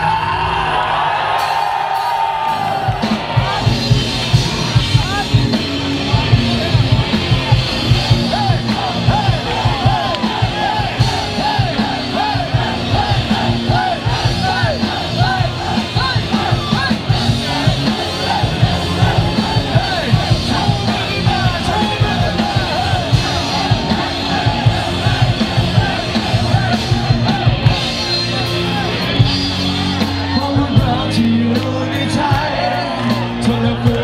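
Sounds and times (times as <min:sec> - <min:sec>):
live rock band playing: 0:00.0 - 0:34.0
distorted electric guitar riffing: 0:02.4 - 0:34.0.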